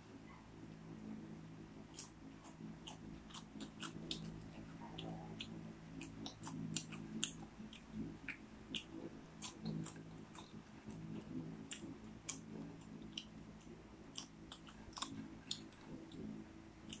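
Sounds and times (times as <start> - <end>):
steady low hum: 0.0 - 17.0
popcorn being chewed: 1.7 - 17.0.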